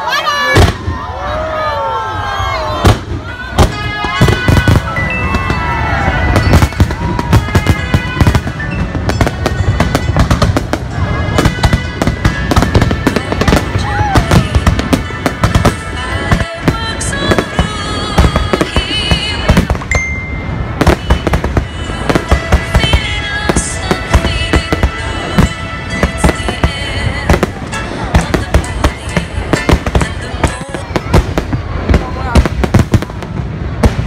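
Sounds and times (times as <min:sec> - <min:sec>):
fireworks bangs and crackling: 0:00.0 - 0:34.0
fireworks whistles: 0:02.8 - 0:34.0.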